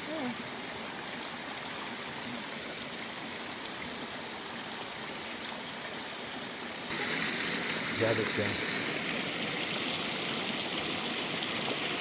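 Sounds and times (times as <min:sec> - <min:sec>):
waterfall pouring into a pool: 0:00.0 - 0:12.0.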